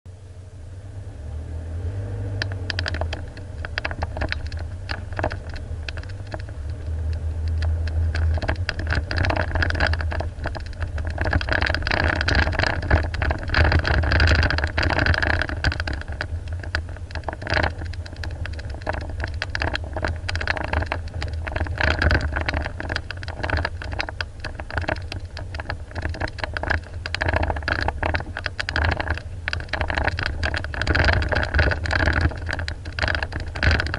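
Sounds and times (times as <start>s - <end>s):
low engine rumble: 0.1s - 33.9s
vehicle rattling and clattering: 2.4s - 33.9s.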